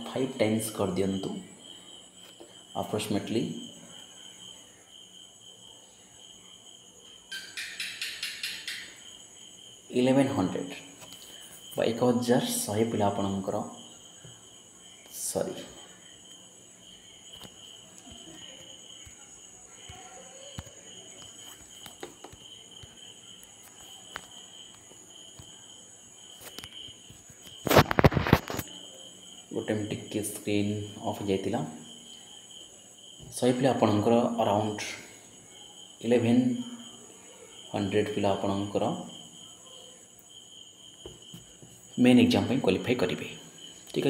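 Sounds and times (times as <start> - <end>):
insect high-pitched trill: 0.0 - 44.0
insect rapid pulses: 0.0 - 44.0.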